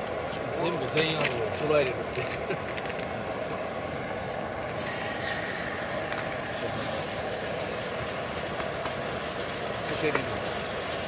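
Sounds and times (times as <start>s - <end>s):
camp stove burner running: 0.0s - 11.0s.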